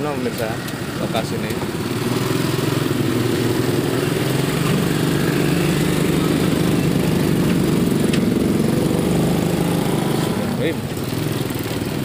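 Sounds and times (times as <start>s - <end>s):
small motorcycle engine running: 0.0s - 12.0s
traffic engine noise: 0.0s - 12.0s.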